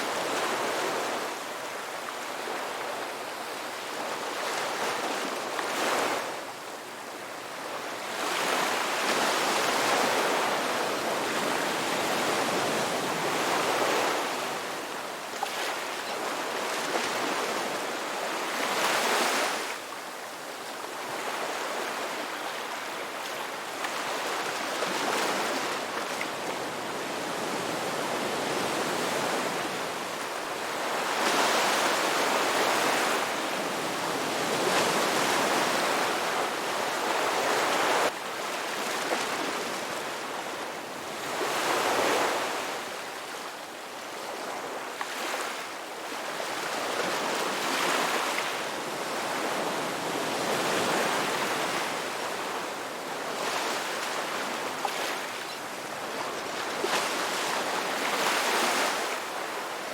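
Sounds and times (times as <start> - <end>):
waves breaking and washing ashore: 0.0 - 59.9.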